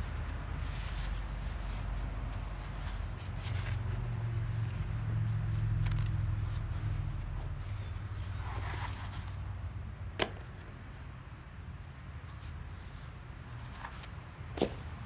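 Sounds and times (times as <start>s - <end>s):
cloth and cord rustling: 0.0s - 15.0s.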